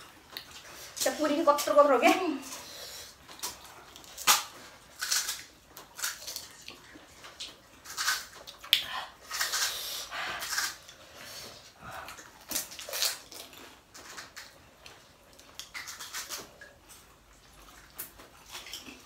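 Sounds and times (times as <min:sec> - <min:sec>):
crunching fried shells: 0:00.2 - 0:19.0.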